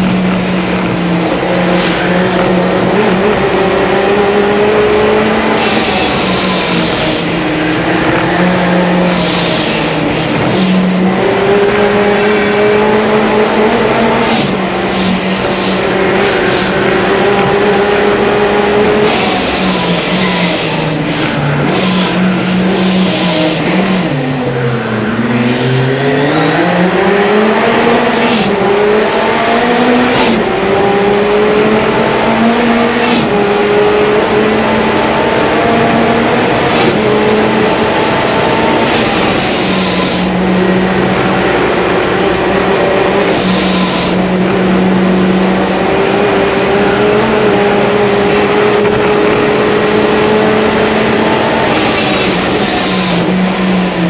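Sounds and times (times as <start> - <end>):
car engine revving from cabin: 0.0 - 54.0.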